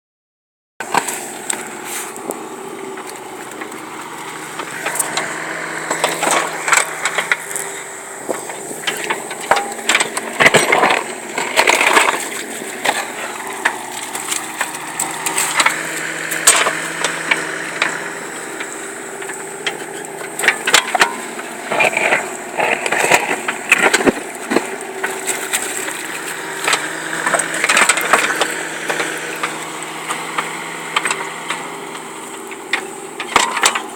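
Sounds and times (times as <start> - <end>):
crunching knocks and scrapes: 0.8 - 33.9
engine running: 0.8 - 33.9.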